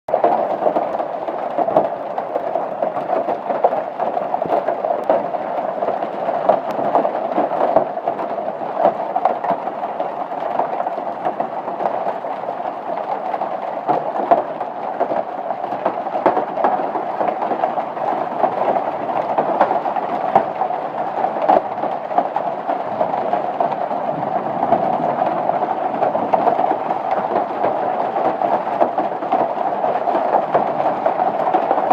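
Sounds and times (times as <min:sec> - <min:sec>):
hail falling heavily: 0:00.1 - 0:31.9.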